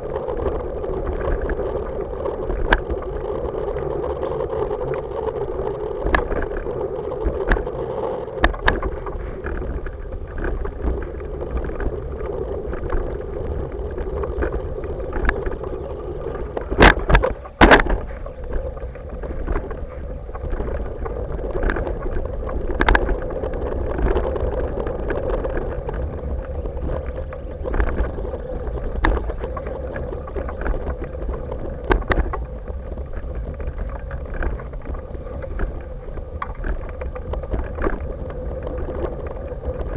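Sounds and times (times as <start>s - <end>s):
hoverboard wheels rumbling: 0.0s - 39.9s.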